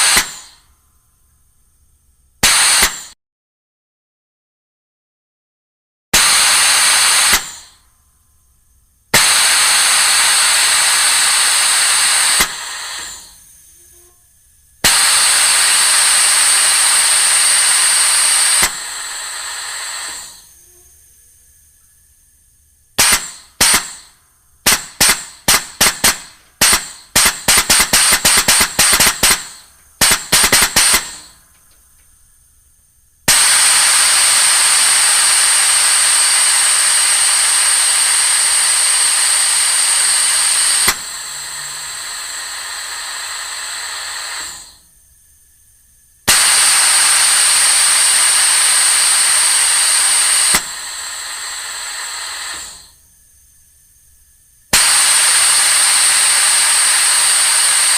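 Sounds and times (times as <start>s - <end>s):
air puffs and hissing blasts: 0.0s - 0.7s, 2.4s - 3.2s, 6.2s - 7.9s, 9.0s - 57.9s.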